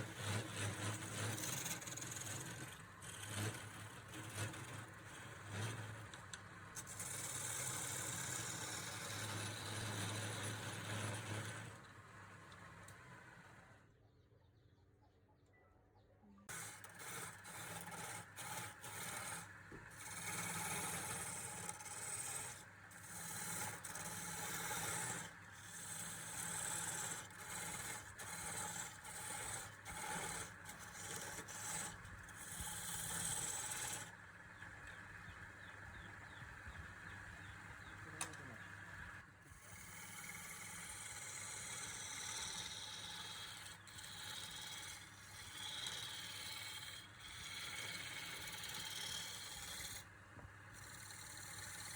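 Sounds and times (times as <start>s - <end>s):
tool rasping against spinning wood: 0.0s - 11.8s, 16.5s - 51.9s
wood lathe motor hum: 0.0s - 13.8s, 16.5s - 51.9s.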